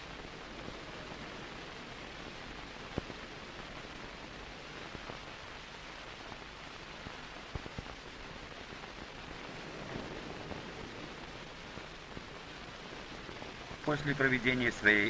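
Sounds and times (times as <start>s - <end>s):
film soundtrack hiss: 0.0s - 15.0s.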